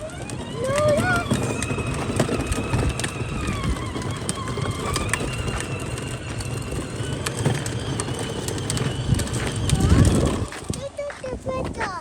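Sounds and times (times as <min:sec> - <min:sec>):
electric motor whine: 0:00.0 - 0:10.8
low rolling rumble: 0:00.0 - 0:11.7.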